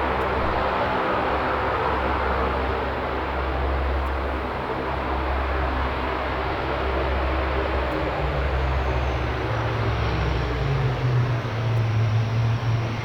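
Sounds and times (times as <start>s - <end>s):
turboprop aircraft taxiing: 0.0s - 13.0s.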